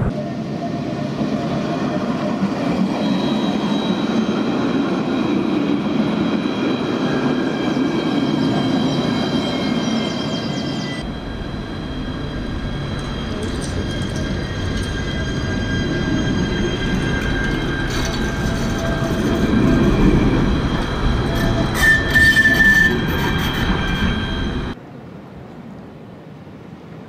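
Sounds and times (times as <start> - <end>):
tram high whining tones: 0.0 - 24.8
tram wheels rumbling on rails: 0.0 - 24.8
tram wheel squeal: 0.1 - 24.8.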